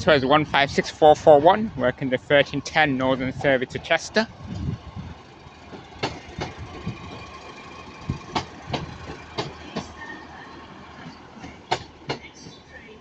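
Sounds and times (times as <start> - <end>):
train diesel engine running: 0.0 - 13.0
train wheels clacking over rail joints: 0.4 - 13.0.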